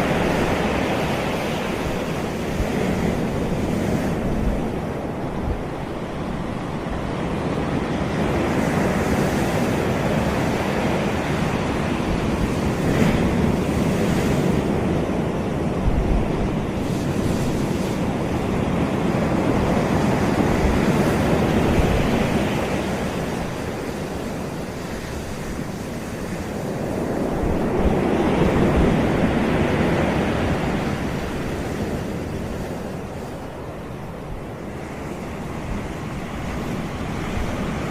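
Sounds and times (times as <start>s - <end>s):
sea waves washing onto beach: 0.0s - 37.9s.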